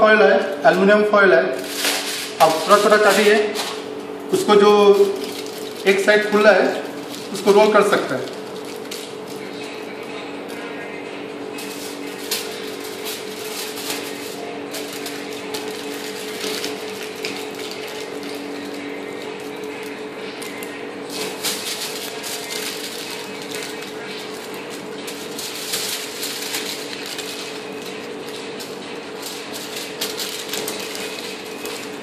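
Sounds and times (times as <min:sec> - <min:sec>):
aluminium foil crinkling: 0:01.5 - 0:10.8, 0:11.6 - 0:32.0.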